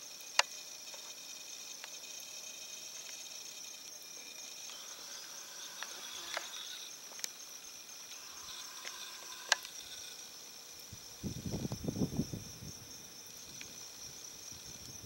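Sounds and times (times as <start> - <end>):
crickets chorus: 0.0 - 15.0
short insect chirps: 0.0 - 15.0.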